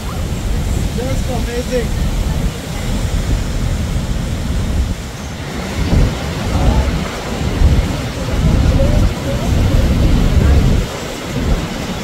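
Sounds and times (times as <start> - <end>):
waterfall roaring: 0.0 - 12.0
wind gusting on microphone: 0.0 - 12.0.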